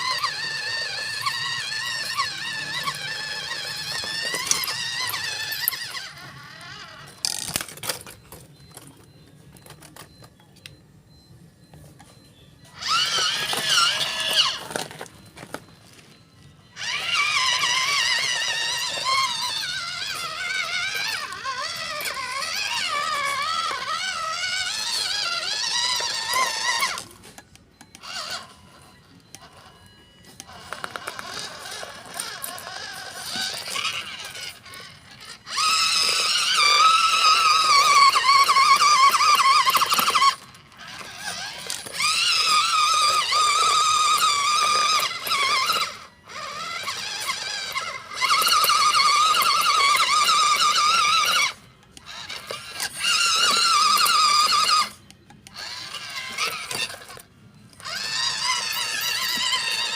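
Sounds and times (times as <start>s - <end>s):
electric motor and gearbox whining: 0.0s - 59.9s.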